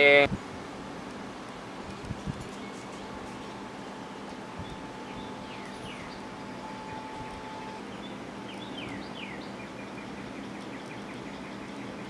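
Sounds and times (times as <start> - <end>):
low hum and hiss: 0.0 - 12.0
birds chirping: 0.6 - 12.0.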